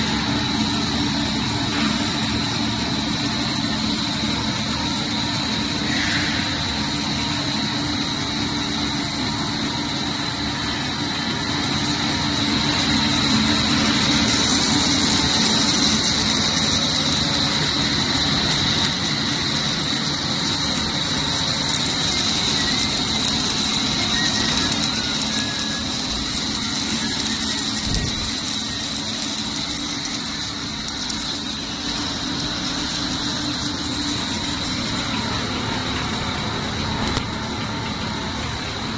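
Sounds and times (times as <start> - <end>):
machine whine over low hum: 0.0 - 38.9.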